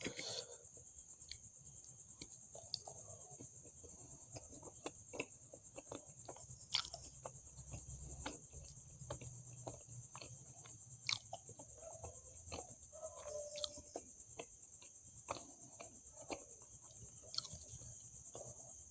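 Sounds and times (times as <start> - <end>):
chewing with mouth smacks: 1.2 - 18.8.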